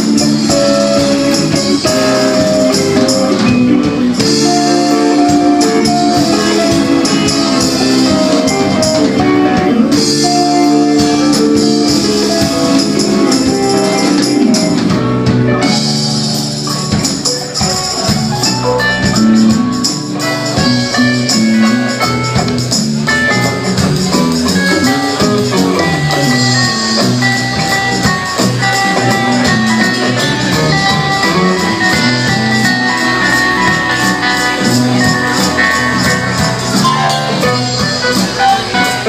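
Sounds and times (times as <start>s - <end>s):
bright high percussion: 0.0s - 39.0s
live band instrumental: 0.0s - 39.0s.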